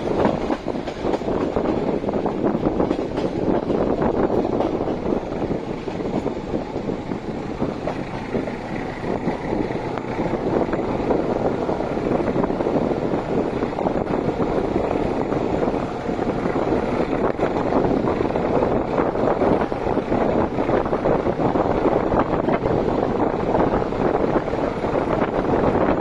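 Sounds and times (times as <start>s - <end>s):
small rail clicks: 0.0s - 26.0s
train wheels rumbling on rails: 0.0s - 26.0s
wind noise: 0.0s - 26.0s.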